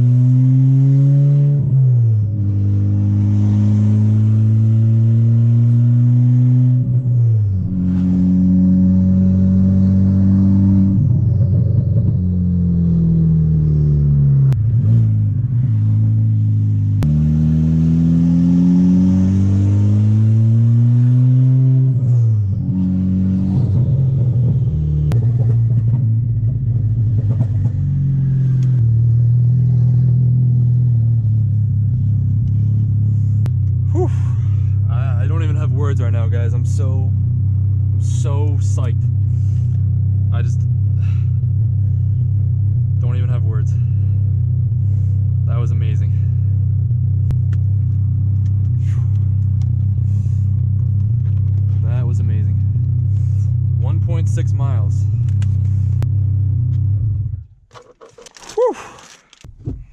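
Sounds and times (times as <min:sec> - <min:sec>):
car engine accelerating: 0:00.0 - 0:58.7.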